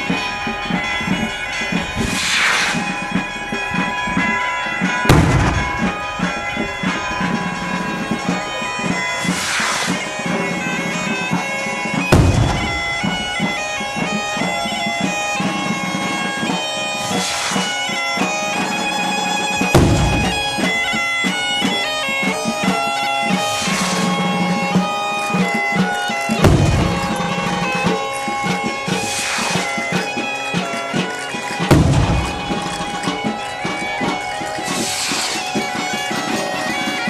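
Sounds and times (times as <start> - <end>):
loud bangs: 0.0 - 11.1, 11.8 - 16.2, 19.6 - 36.2
bagpipe playing a tune: 0.0 - 37.0.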